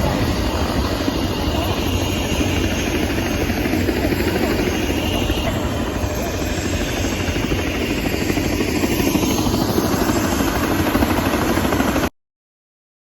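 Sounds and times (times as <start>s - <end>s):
helicopter rotor beating: 0.0s - 12.1s.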